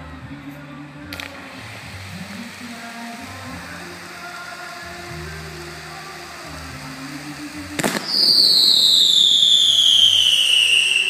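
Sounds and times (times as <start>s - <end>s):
faint show music: 0.0s - 11.0s
firework bang: 1.1s - 11.0s
whistling firework falling in pitch: 1.2s - 11.0s.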